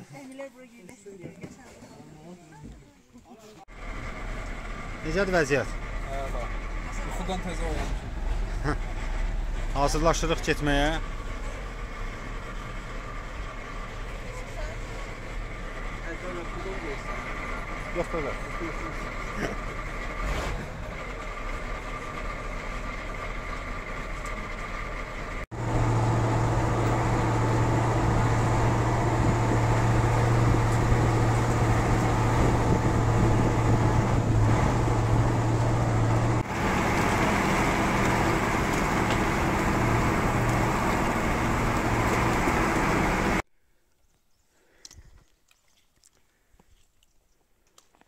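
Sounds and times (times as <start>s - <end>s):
truck engine running: 3.7s - 43.4s.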